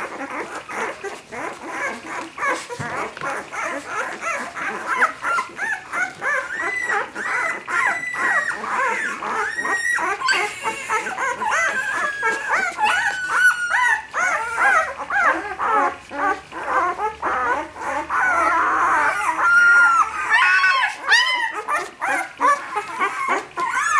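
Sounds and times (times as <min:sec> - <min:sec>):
puppies whimpering and squealing: 0:00.0 - 0:23.9.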